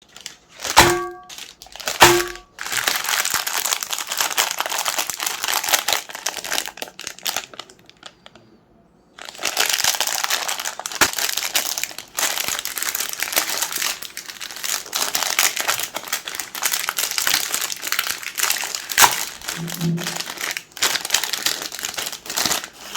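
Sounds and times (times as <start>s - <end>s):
chocolate shells crackling in grinder: 0.0s - 8.2s, 9.2s - 22.9s.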